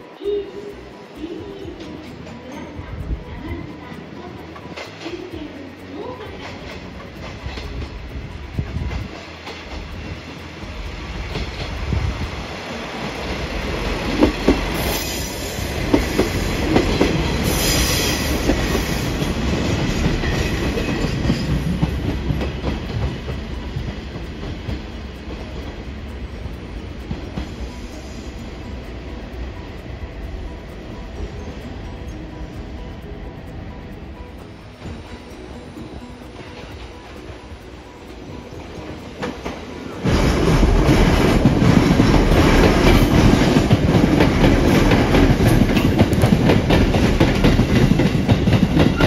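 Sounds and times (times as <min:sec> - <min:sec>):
train passing on rails: 0:00.0 - 0:49.0
wheels clacking over rail joints: 0:01.1 - 0:49.0.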